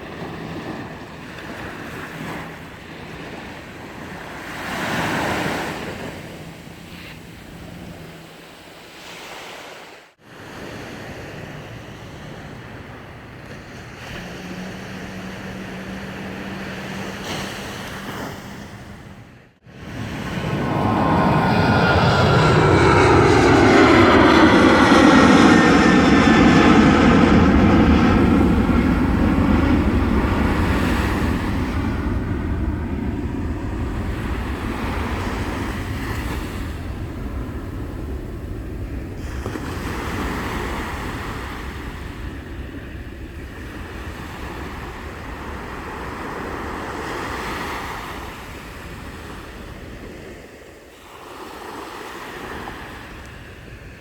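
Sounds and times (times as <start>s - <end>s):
jet airliner passing overhead: 0.0s - 8.4s, 10.3s - 50.9s.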